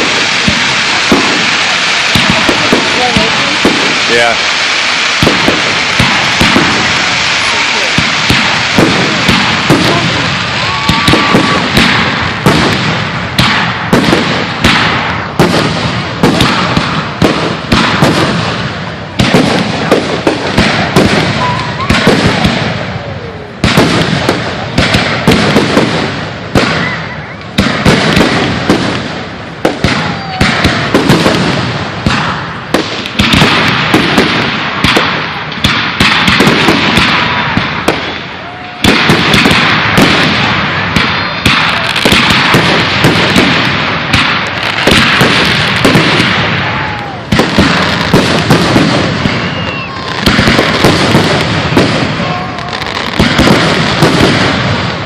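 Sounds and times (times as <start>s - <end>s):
firework booms: 0.0s - 55.0s
firework crackling: 0.0s - 55.0s.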